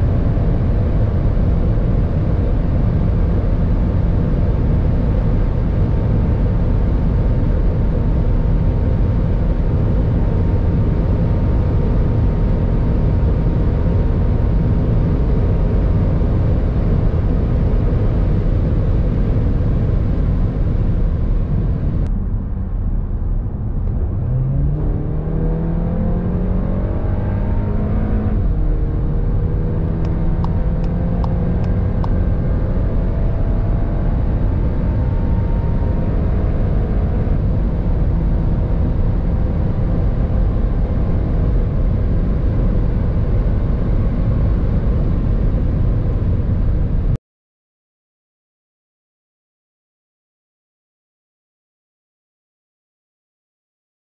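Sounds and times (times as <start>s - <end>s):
car engine at full throttle: 0.0s - 47.2s
wind and tyre noise: 0.0s - 47.2s.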